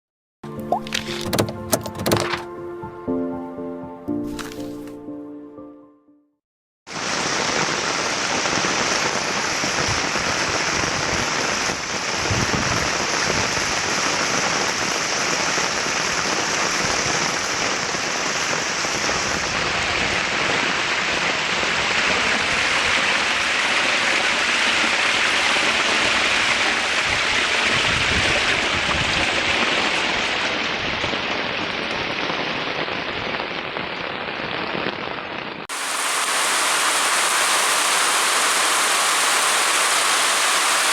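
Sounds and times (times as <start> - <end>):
heavy rain pouring: 6.9 - 40.9.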